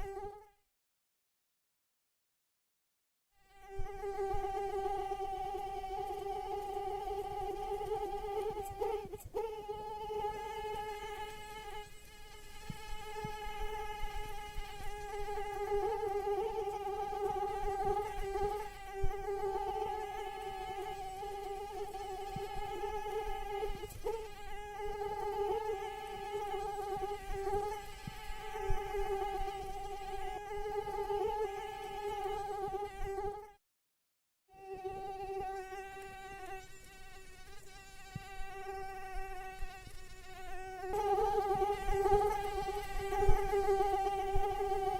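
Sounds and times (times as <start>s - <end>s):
mosquito whining: 3.4s - 33.6s, 34.6s - 44.9s.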